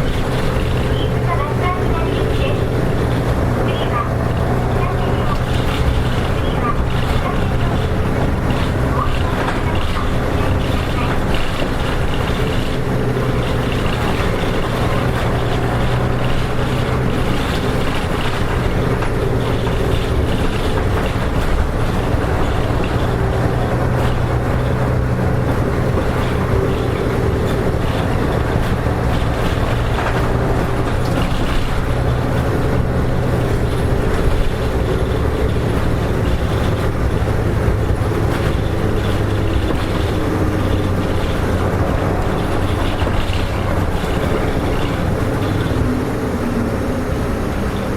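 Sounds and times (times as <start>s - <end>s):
bus diesel engine running: 0.0s - 47.9s
road noise: 0.0s - 47.9s.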